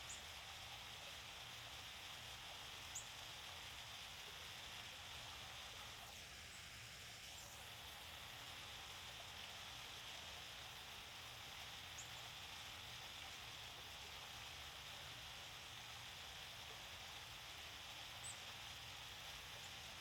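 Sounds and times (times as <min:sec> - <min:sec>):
small waterfall splashing: 0:00.0 - 0:20.0.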